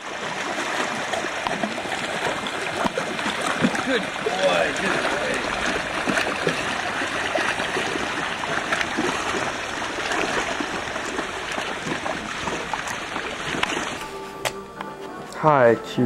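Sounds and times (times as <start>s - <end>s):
water splashing and sloshing: 0.0s - 15.7s.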